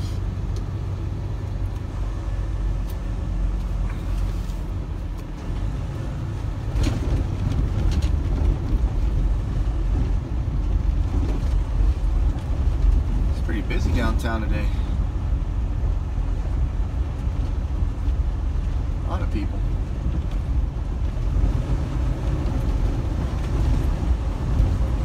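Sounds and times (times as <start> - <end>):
road noise: 0.0 - 25.0
truck diesel engine rumble: 0.0 - 25.0.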